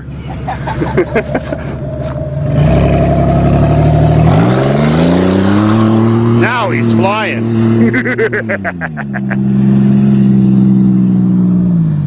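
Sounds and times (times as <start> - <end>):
motor engine revving: 0.1 - 12.0.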